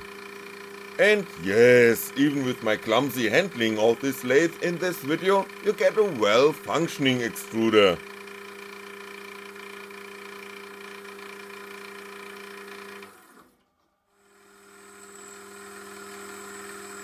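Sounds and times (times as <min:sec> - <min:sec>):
lathe motor whine and hum: 0:00.0 - 0:13.5, 0:14.2 - 0:17.0.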